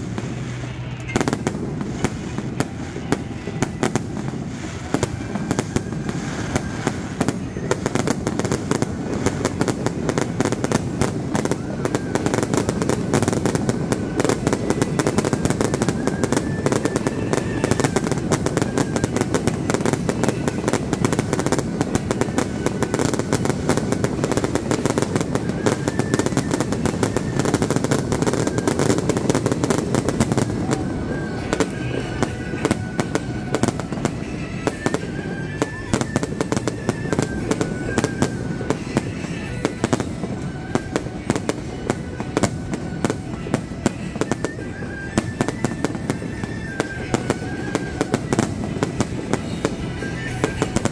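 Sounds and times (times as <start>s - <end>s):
fireworks crackling: 0.0s - 50.9s.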